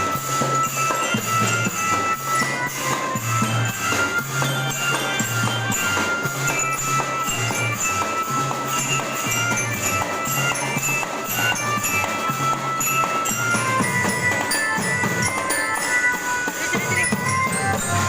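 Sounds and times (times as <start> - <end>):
bell-like melody: 0.0 - 18.0
jingling percussion: 0.0 - 18.0.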